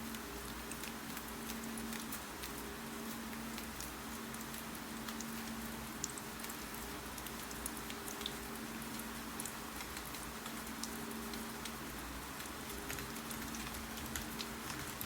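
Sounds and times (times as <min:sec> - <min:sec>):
raindrops ticking and tapping: 0:00.1 - 0:15.0
rain falling: 0:00.5 - 0:15.0.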